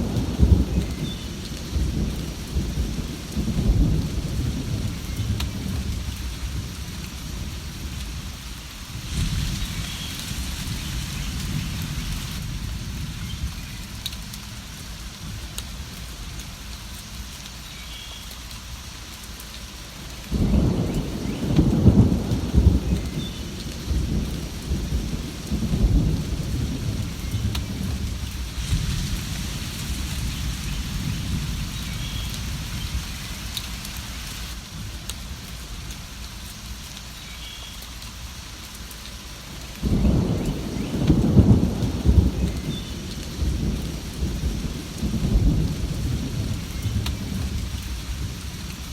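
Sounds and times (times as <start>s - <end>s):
thunder rumbling: 0.0s - 16.4s, 20.2s - 35.9s, 39.8s - 48.9s
steady rain: 0.0s - 48.9s.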